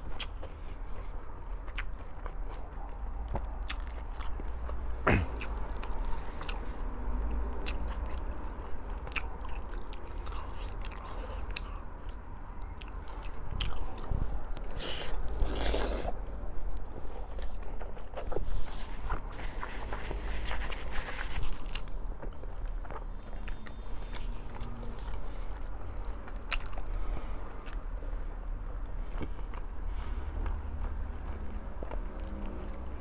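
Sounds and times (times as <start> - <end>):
person chewing food: 0.0 - 6.9, 7.5 - 32.9.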